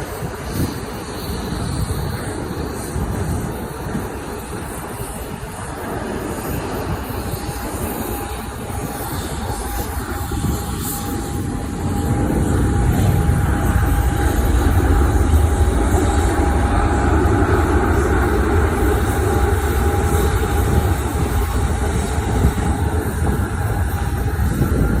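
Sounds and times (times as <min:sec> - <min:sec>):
airliner engines rumbling: 0:00.0 - 0:25.0
thin steady whine: 0:00.0 - 0:25.0.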